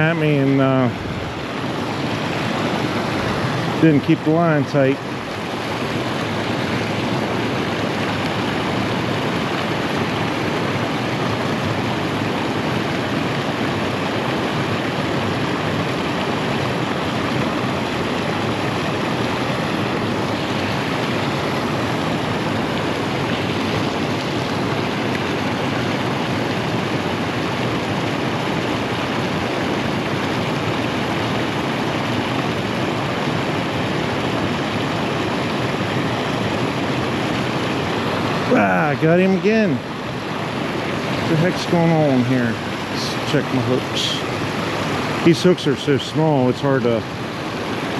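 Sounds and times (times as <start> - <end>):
flowing water rushing: 0.0 - 47.9.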